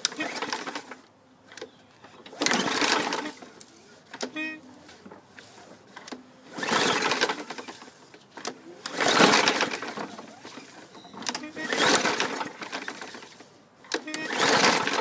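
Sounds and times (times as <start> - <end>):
lawn mower engine cranking: 0.0 - 15.0.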